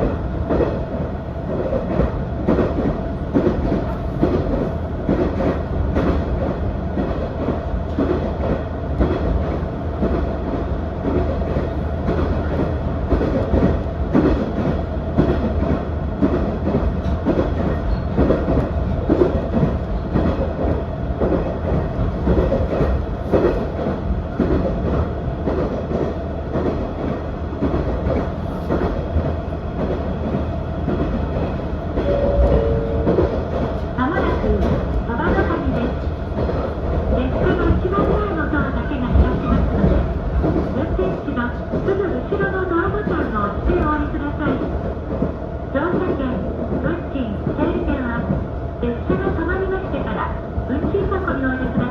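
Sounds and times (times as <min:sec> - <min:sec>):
railcar engine hum: 0:00.0 - 0:51.9.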